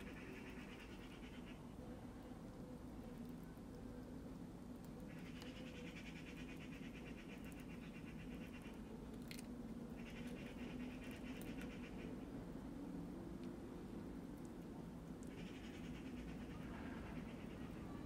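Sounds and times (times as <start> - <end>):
squirrel eating mouth sounds: 0.0 - 18.0.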